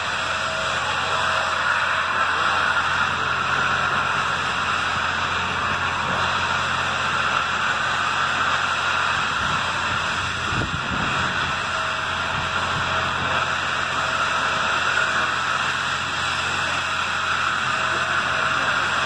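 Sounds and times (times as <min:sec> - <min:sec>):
steam hissing from locomotive: 0:00.0 - 0:19.0.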